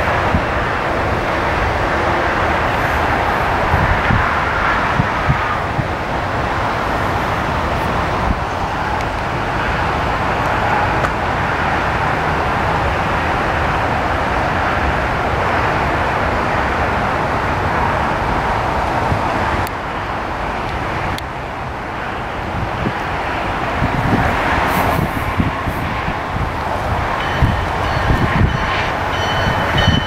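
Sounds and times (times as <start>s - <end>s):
road traffic rushing: 0.0s - 30.0s.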